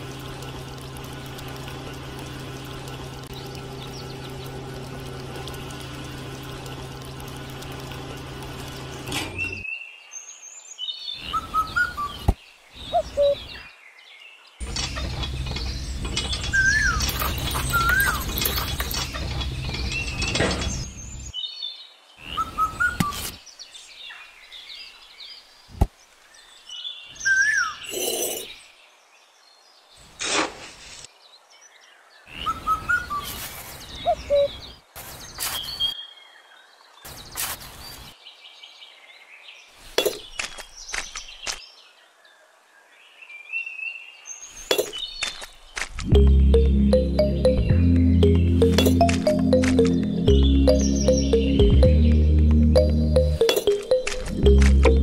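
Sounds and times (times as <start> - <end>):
birds chirping: 0.0 - 29.1, 31.8 - 42.2, 44.0 - 55.0.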